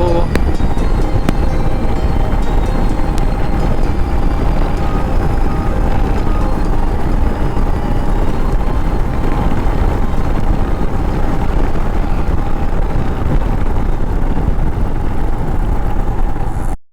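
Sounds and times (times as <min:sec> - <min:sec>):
microphone rumble: 0:00.0 - 0:16.8
motorcycle engine running: 0:00.0 - 0:16.8.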